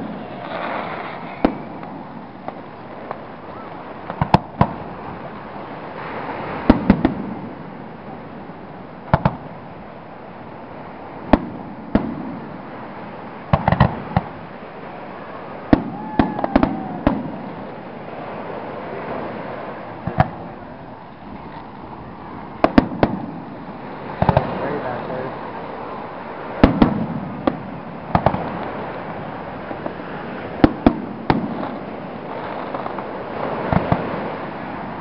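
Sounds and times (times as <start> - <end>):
background hiss: 0.0 - 35.0
fireworks bursting with sharp bangs: 0.0 - 35.0.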